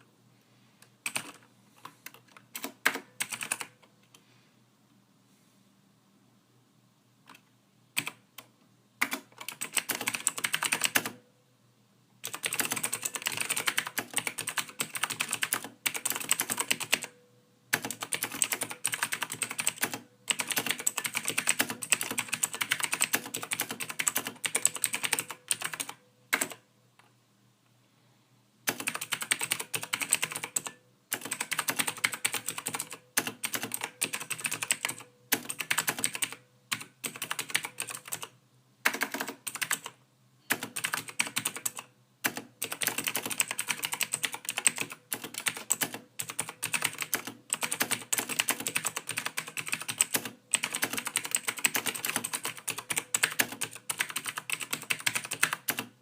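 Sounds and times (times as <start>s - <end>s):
keyboard typing: 1.0s - 4.2s, 7.2s - 11.2s, 12.2s - 26.6s, 28.7s - 56.0s.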